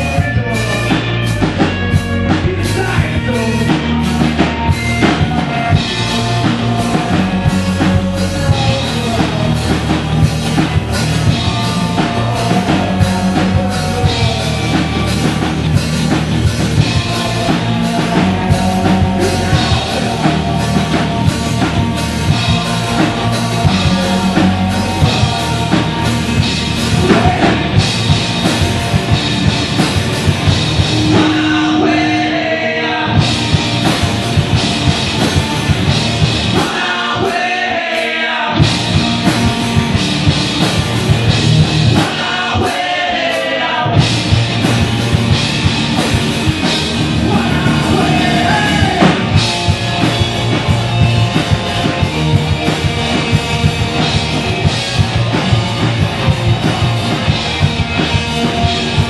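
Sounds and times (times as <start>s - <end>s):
bass guitar: 0.0s - 59.0s
drum kit beat: 0.0s - 59.0s
electric guitars: 0.0s - 59.0s.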